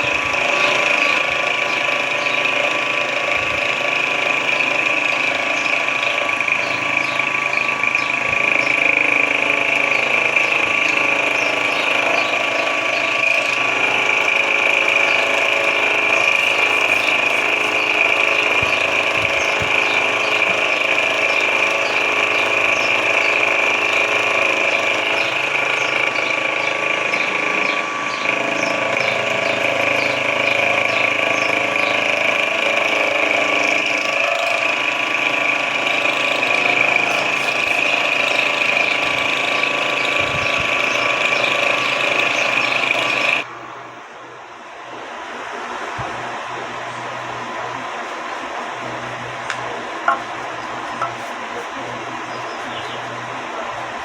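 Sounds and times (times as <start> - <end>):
mill-drill motor whining: 0.0 - 54.0.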